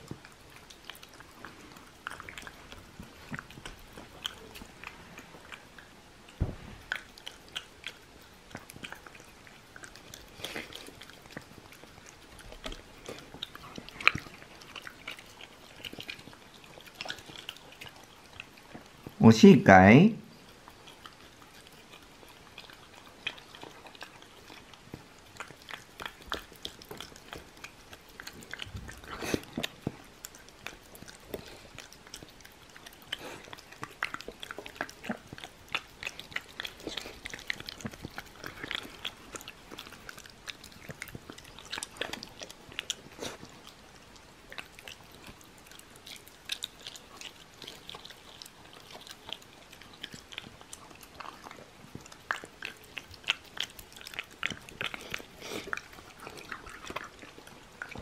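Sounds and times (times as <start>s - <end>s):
dog chewing and licking: 0.0s - 58.0s.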